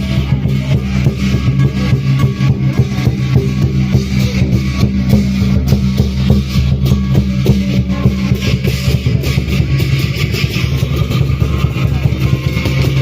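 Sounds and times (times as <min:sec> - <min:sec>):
loud music with driving drum beat: 0:00.0 - 0:13.0.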